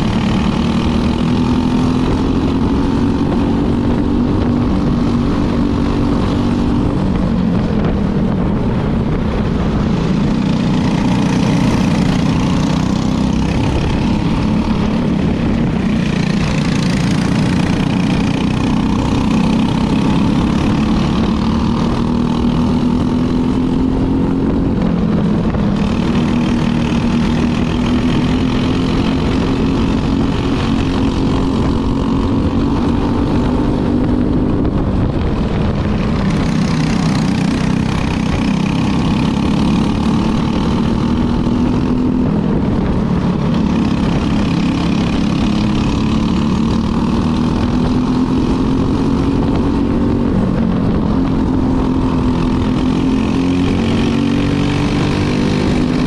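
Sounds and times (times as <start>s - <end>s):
go-kart engine racing: 0.0s - 56.0s.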